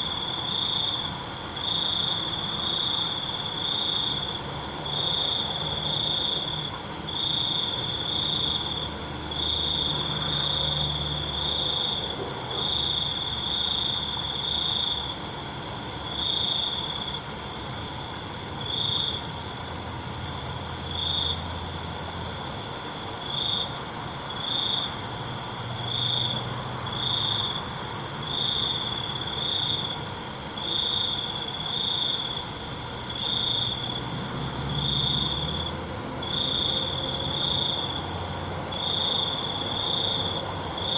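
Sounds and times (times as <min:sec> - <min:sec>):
cricket trilling: 0:00.0 - 0:40.9
insect chorus: 0:00.0 - 0:40.9.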